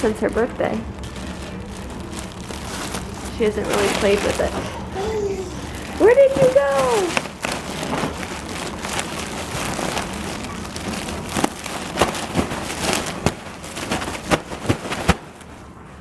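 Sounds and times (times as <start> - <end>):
balloon crinkling rustle: 0.0 - 16.0.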